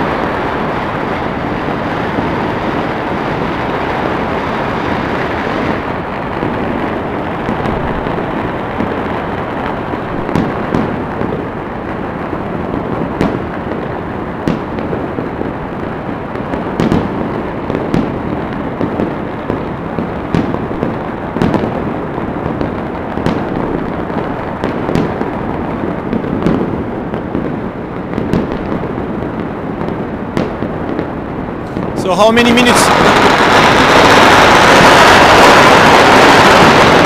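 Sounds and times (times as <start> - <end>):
dense firework crackle: 0.0 - 37.0
firecracker bangs: 0.0 - 37.0.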